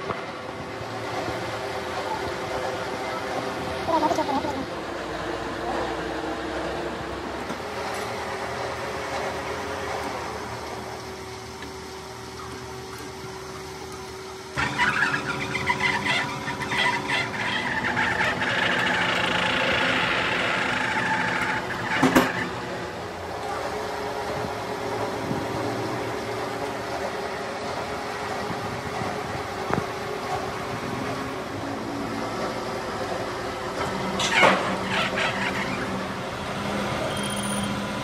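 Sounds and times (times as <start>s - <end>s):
machine hum: 0.0s - 38.0s.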